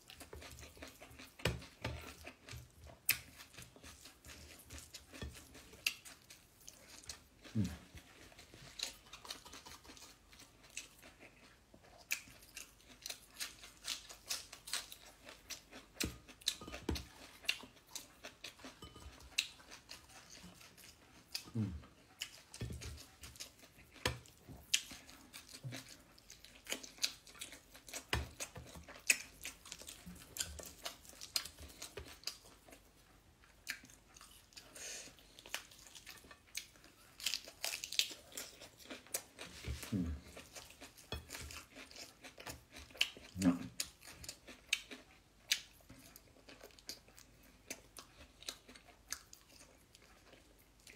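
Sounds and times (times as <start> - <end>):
person chewing and lip smacking: 0.0 - 50.9.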